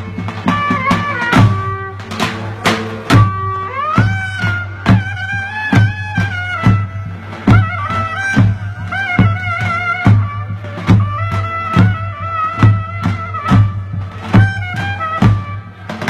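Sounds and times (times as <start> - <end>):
drum beats: 0.0 - 16.0
shrill reed pipe melody: 0.0 - 16.0.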